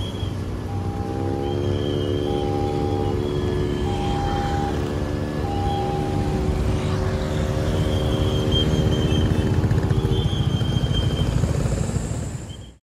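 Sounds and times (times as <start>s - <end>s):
motorcycles and cars passing: 0.0s - 12.7s.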